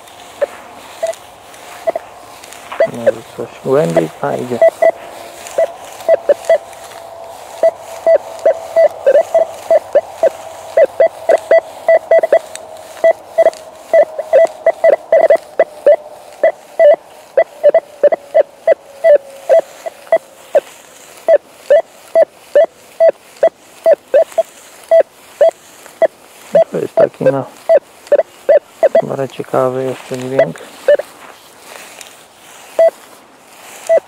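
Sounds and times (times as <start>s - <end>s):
faint steady tone: 0.0s - 34.0s
metal detector short beeps: 0.4s - 1.2s, 1.8s - 2.0s, 2.7s - 6.7s, 7.6s - 20.6s, 21.2s - 29.2s, 30.3s - 31.1s, 32.7s - 33.0s, 33.8s - 34.0s.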